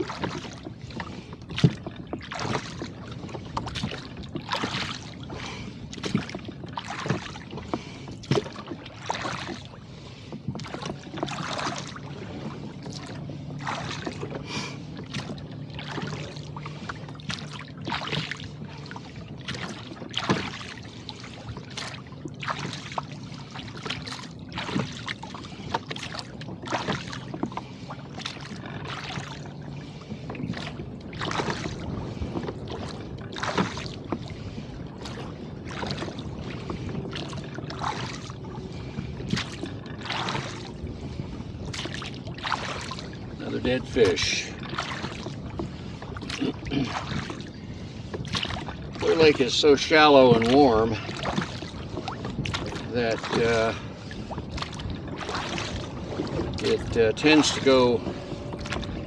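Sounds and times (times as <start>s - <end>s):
oars dipping in water: 0.0s - 59.0s
water splashing against hull: 0.0s - 59.0s.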